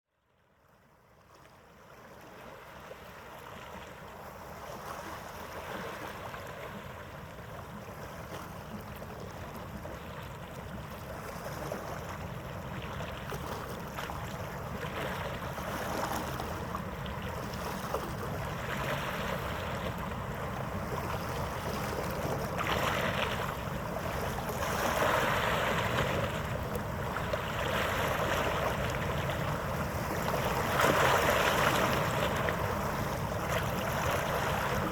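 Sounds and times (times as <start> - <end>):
wind: 0.1 - 34.9
harbour water: 0.3 - 34.9.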